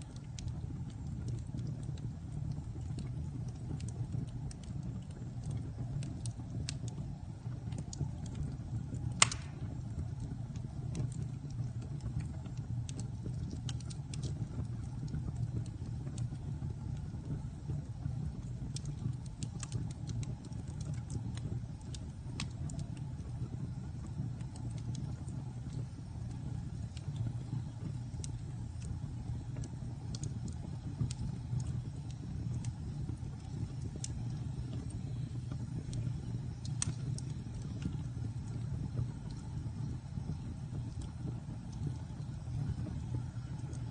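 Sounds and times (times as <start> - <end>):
fire popping: 0.0 - 43.9
wood fire crackling: 0.0 - 43.9.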